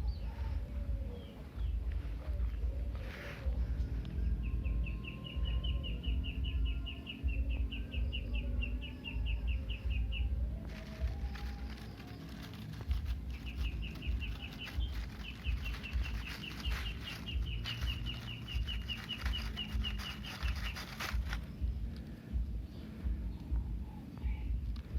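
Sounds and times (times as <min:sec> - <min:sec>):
low rumble: 0:00.0 - 0:24.9.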